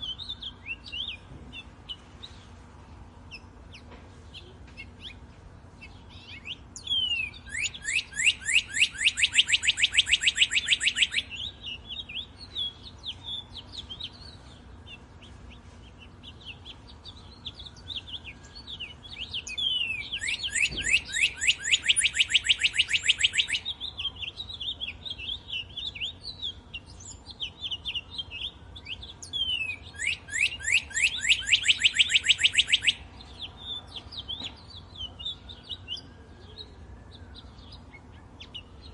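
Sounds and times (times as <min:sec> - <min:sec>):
soft bird chirps: 0:00.0 - 0:38.9
songbird fast trill: 0:03.3 - 0:36.1.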